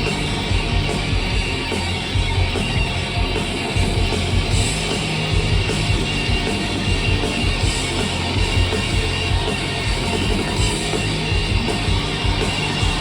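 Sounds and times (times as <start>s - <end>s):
rock band music: 0.0s - 13.0s.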